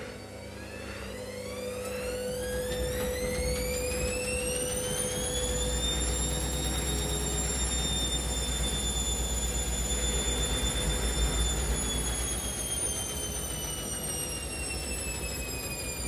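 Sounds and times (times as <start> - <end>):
washing machine motor whine: 0.0 - 16.0.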